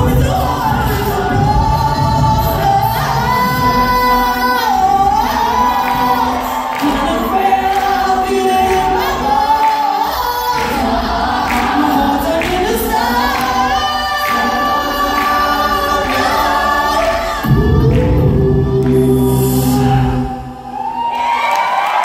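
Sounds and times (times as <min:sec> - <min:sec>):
vocal group singing unaccompanied: 0:00.0 - 0:21.2.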